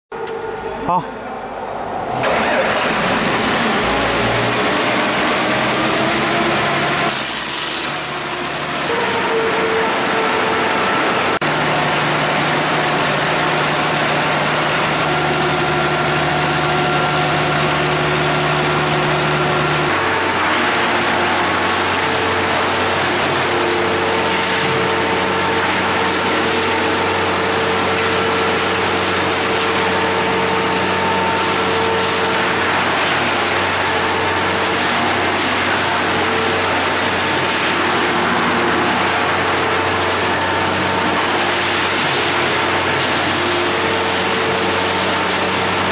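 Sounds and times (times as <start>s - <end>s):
whining tones: 0.2s - 41.4s
wood chipper engine droning: 0.2s - 45.9s.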